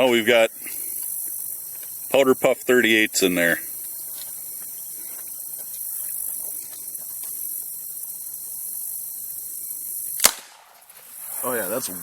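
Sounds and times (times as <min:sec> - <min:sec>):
high hiss: 0:00.0 - 0:12.0.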